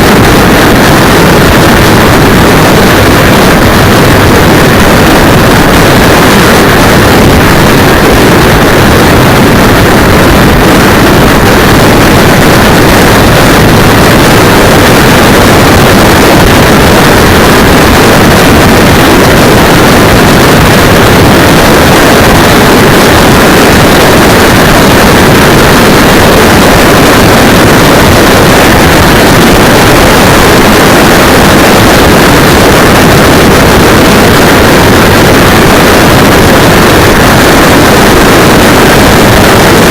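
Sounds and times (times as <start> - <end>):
distorted wind rush: 0.0 - 39.9
road noise: 0.0 - 39.9.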